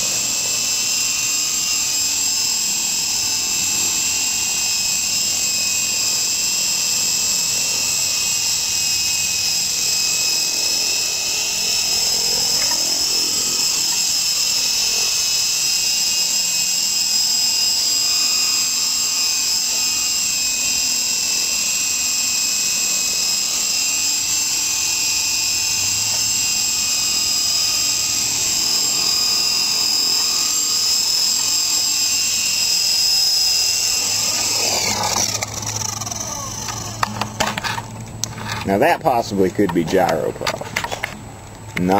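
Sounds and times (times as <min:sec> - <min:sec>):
rc helicopter rotor whine: 0:00.0 - 0:41.9.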